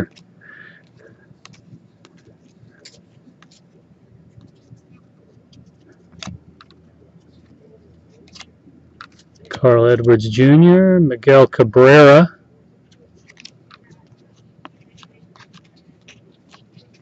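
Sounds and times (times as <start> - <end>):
cards rustling and clicking: 0.0 - 10.4, 12.8 - 17.0.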